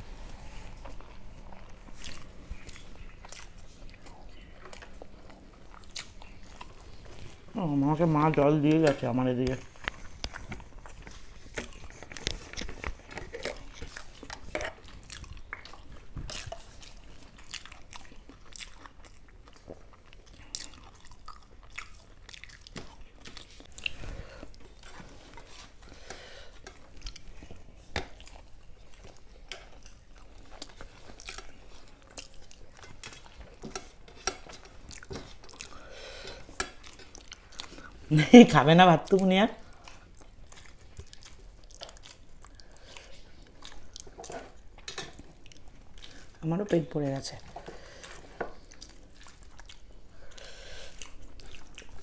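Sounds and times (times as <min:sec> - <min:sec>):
person chewing food: 0:00.0 - 0:38.1, 0:39.1 - 0:46.4, 0:47.2 - 0:52.0.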